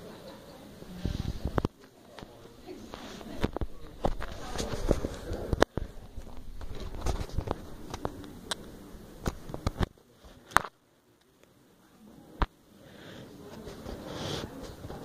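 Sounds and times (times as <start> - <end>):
murmur of room noise: 0.0 - 15.0.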